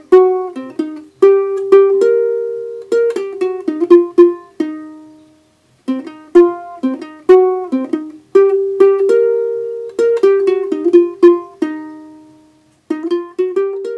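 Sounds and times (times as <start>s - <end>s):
plucked string melody: 0.0s - 13.9s.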